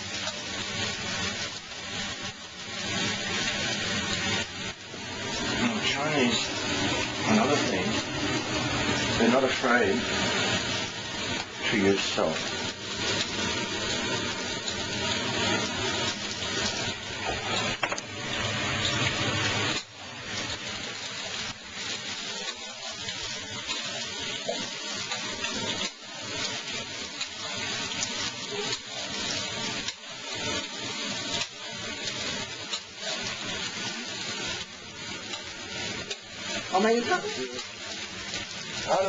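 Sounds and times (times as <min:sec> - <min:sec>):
eggplant sizzling in oil: 0:00.0 - 0:39.0.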